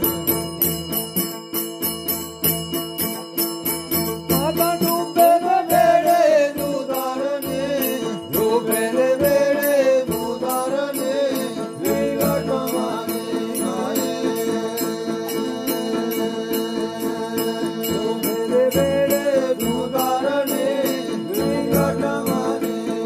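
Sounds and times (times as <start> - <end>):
bells jingling: 0.0 - 23.0
man singing folk ballad: 4.3 - 23.0.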